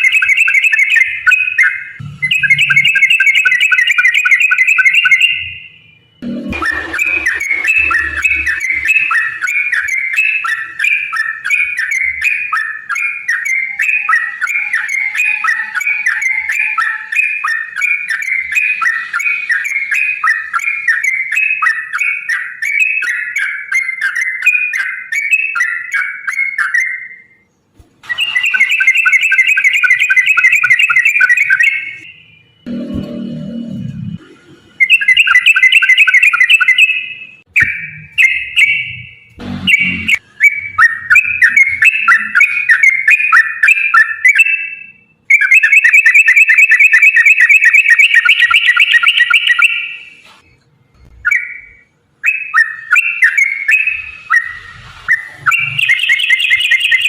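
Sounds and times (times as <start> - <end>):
bird singing rapid rolling song: 0.0 - 32.6, 34.8 - 50.1, 51.2 - 57.0.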